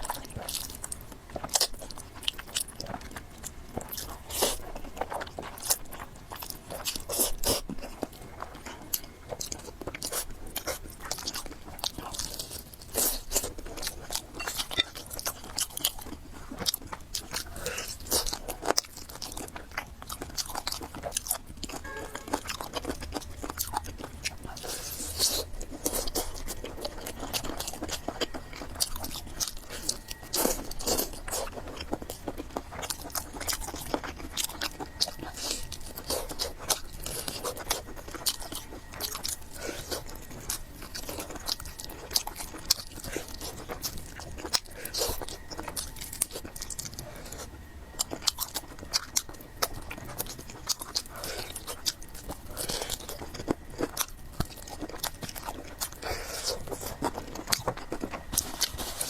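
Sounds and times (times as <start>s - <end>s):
chewing and slurping noodles: 0.0s - 59.0s.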